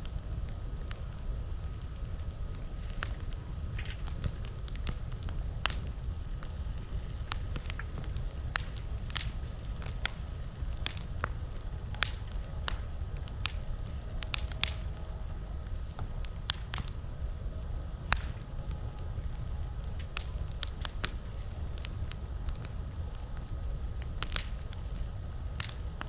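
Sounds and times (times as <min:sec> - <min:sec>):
campfire crackling: 0:00.0 - 0:26.0
low rumble: 0:00.0 - 0:26.0.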